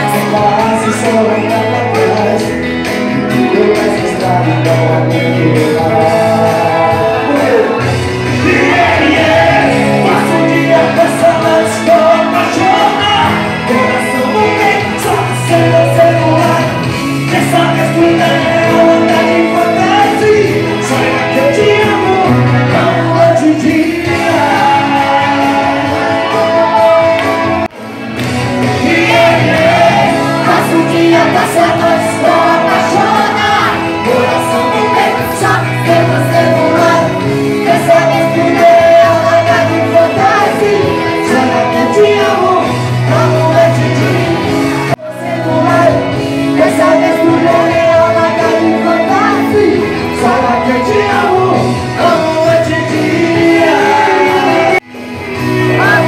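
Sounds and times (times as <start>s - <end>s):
crowd singing and shouting along: 0.0s - 56.0s
live band playing: 0.0s - 56.0s
person singing: 0.0s - 56.0s.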